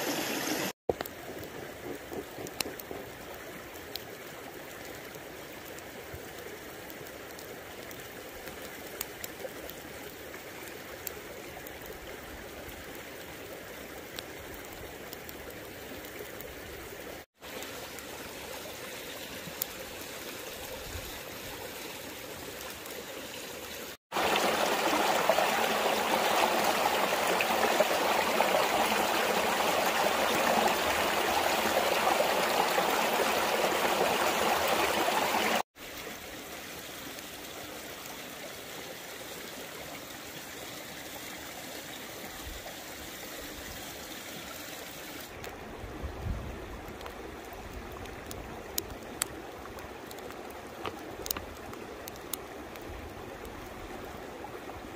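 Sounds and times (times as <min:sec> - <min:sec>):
stream rushing over stones: 0:00.0 - 0:54.9.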